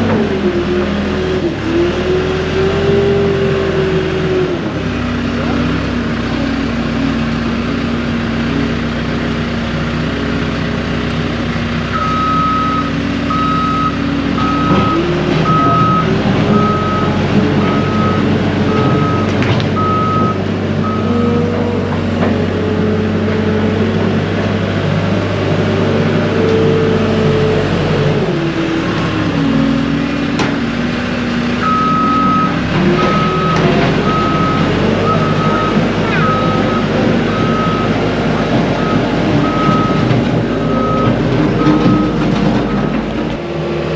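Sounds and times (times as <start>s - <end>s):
skid steer engine revving: 0.0s - 43.9s.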